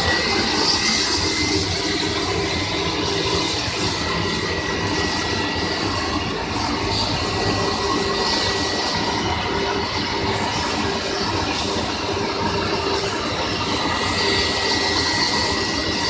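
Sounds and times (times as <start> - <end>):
thin high whine: 0.0 - 16.0
wire drawing machine rumbling: 0.0 - 16.0.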